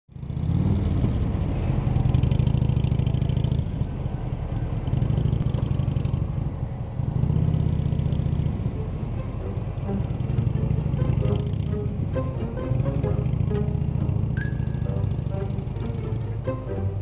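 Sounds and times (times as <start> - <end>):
motorcycle engine revving: 0.1 - 17.0.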